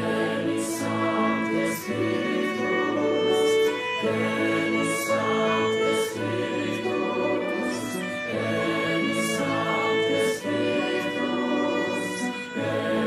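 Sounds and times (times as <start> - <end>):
choir singing: 0.0 - 13.0
violin playing: 0.0 - 13.0.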